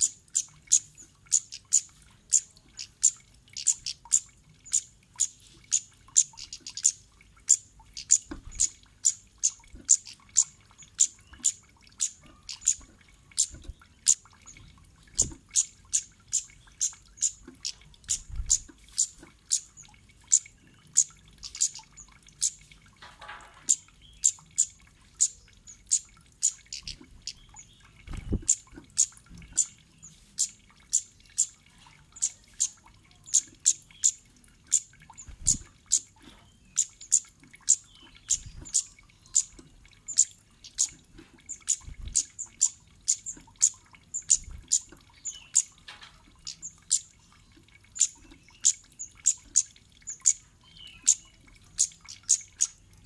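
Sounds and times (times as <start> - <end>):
bird chirping high-pitched: 0.0 - 22.6, 23.6 - 53.0.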